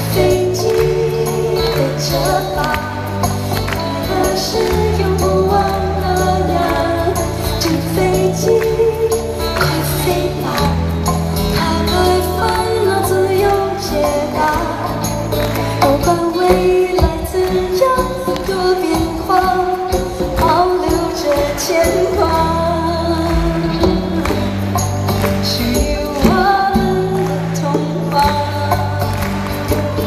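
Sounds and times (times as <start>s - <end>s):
live band music: 0.0s - 30.0s
woman singing: 0.0s - 30.0s.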